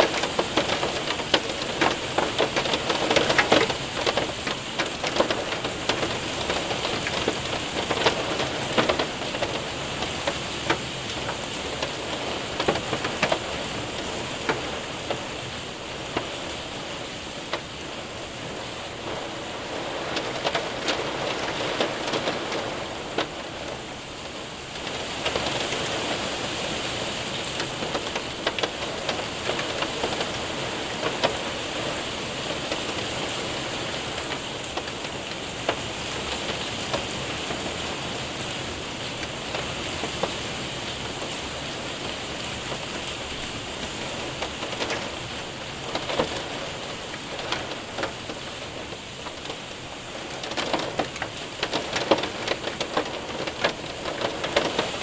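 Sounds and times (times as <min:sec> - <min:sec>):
hailstones ticking on window: 0:00.0 - 0:55.0
rain hissing: 0:00.0 - 0:55.0.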